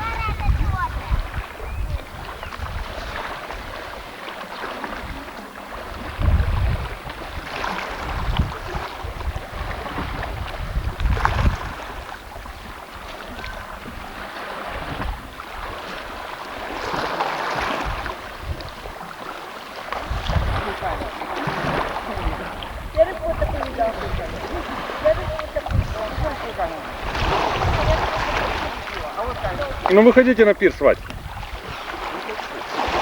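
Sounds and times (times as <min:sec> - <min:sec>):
sea water splashing: 0:00.0 - 0:33.0
wind buffeting microphone: 0:00.0 - 0:33.0.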